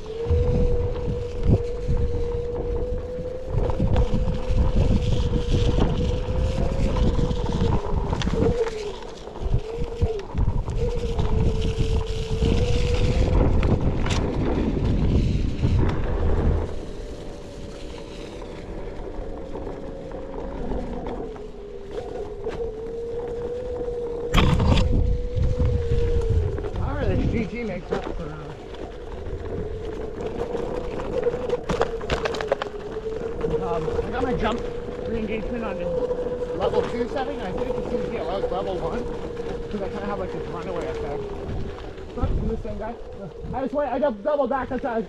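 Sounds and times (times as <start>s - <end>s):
electric motor whining: 0.0s - 45.0s
wind buffeting microphone: 0.0s - 45.0s.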